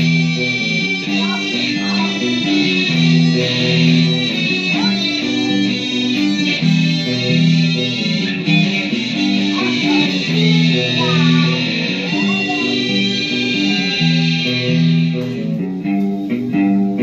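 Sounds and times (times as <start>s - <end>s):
guitar playing held notes: 0.0s - 17.0s.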